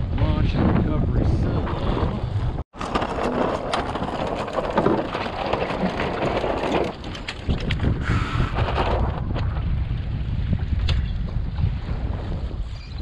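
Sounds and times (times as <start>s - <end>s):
gusty wind on microphone: 0.0s - 4.6s, 5.2s - 13.0s.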